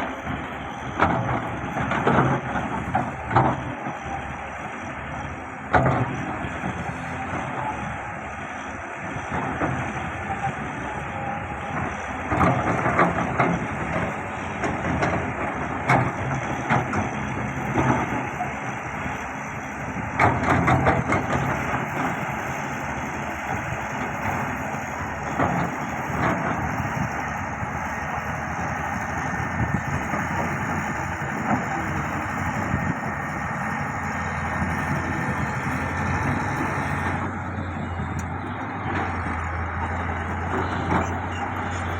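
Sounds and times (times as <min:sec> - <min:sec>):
construction machine engine running: 0:00.0 - 0:41.9.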